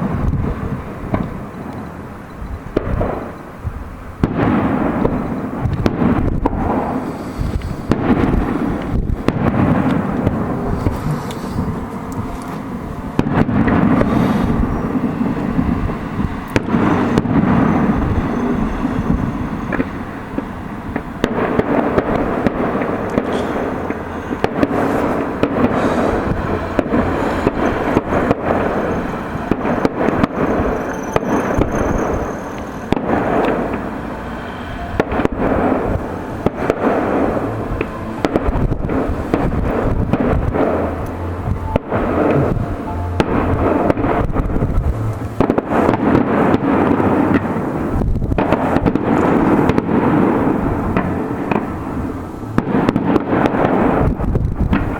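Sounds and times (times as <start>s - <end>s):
fireworks bangs and crackling: 0.0s - 54.9s
high firework whistle: 4.5s - 54.9s.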